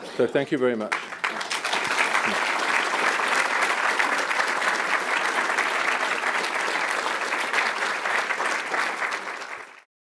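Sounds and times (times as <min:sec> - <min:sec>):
audience applauding: 0:00.5 - 0:09.9.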